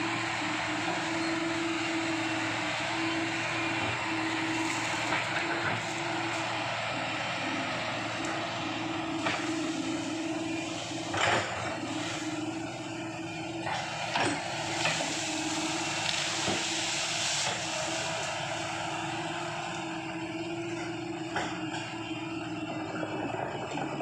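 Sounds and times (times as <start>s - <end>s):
excavator diesel engine humming: 0.0s - 24.0s.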